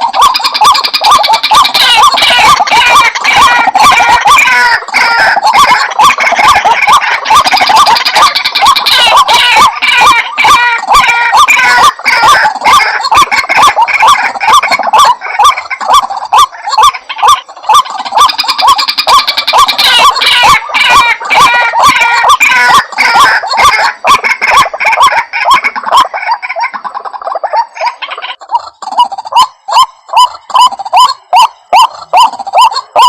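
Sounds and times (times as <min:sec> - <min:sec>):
waterhens croaking: 0:00.0 - 0:33.0.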